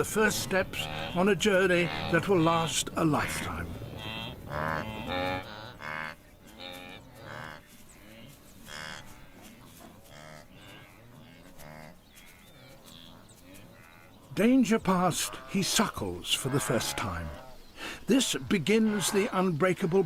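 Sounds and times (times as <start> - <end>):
wildebeest lowing calls: 0.0 - 20.0.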